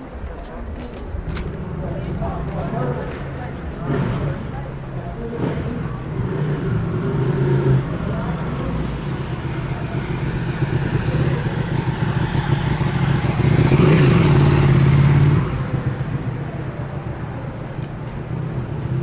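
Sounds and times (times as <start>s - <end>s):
street hum: 0.0s - 19.0s
motor vehicle passing close: 1.3s - 19.0s.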